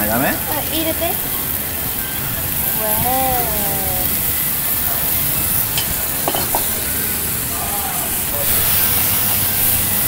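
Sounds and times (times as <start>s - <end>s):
batter sizzling on a hot griddle: 0.0s - 10.0s.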